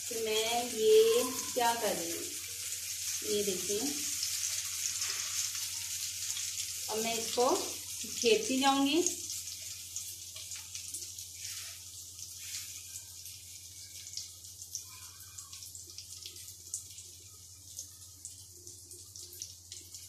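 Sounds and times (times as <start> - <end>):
omelette sizzling on a griddle: 0.0 - 20.0.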